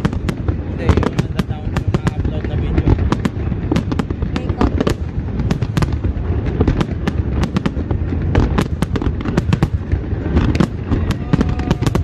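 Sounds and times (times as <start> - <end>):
fireworks bangs and cracks: 0.0 - 12.0
low rumble: 0.0 - 12.0.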